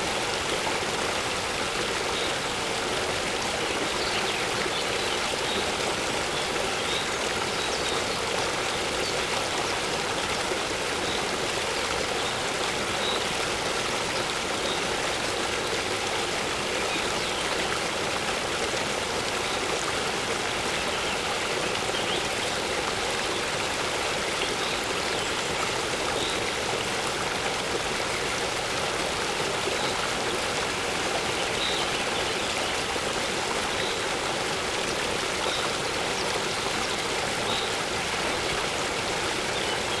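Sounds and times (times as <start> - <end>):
waterfall pouring into a pool: 0.0 - 40.0.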